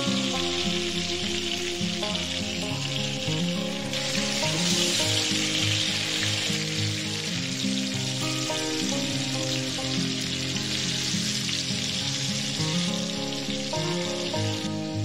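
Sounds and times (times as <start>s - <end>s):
music of sustained notes: 0.0s - 15.0s
sizzling hiss: 0.0s - 15.0s.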